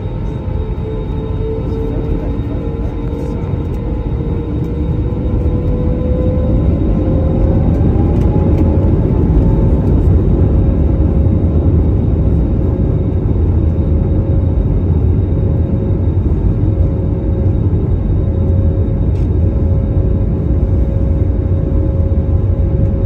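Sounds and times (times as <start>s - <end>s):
jet engine rumble and whine: 0.0s - 23.0s.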